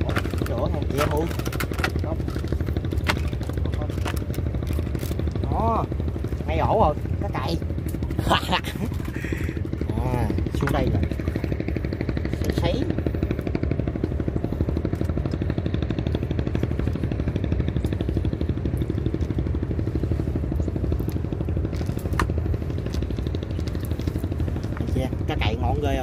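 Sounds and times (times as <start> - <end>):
boat motor pulsing: 0.0 - 26.0.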